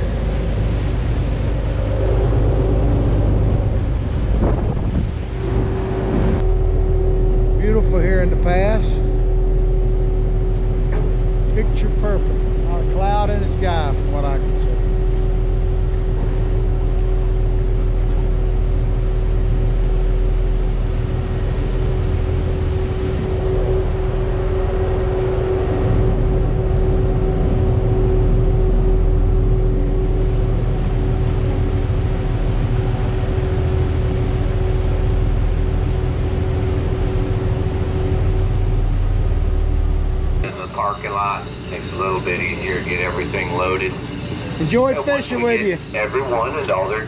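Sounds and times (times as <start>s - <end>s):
boat engines rumbling: 0.0s - 47.0s.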